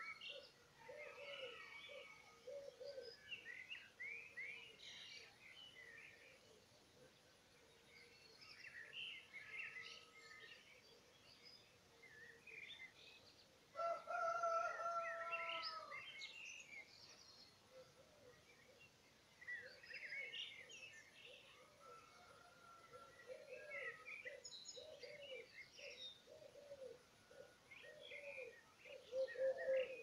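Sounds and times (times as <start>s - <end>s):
songbirds singing: 0.0s - 30.0s.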